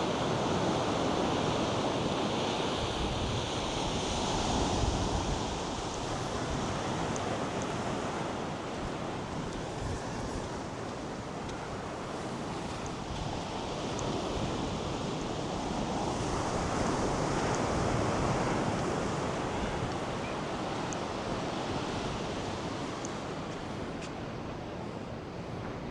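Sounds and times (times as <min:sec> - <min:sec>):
surf washing up beach: 0:00.0 - 0:25.9.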